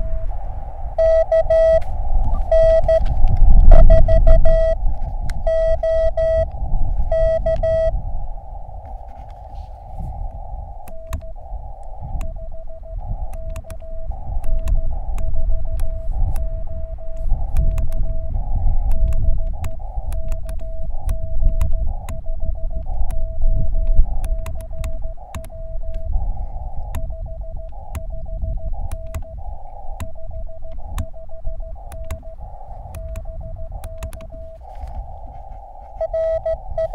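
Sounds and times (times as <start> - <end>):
morse code tone: 0.0 - 0.4, 1.0 - 8.0, 10.0 - 36.9
low rumble: 0.0 - 36.9
receiver hiss: 0.0 - 36.9
static clicks: 0.0 - 36.9.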